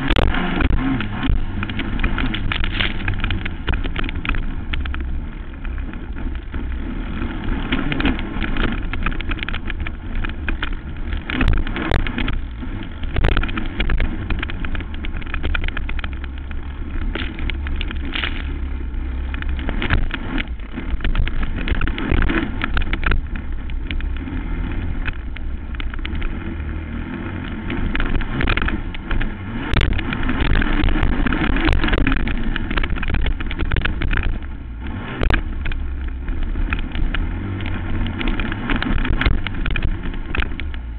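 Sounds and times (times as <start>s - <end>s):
quad engine running hard: 0.0s - 40.9s
sharp knocks and rattles: 0.0s - 40.9s.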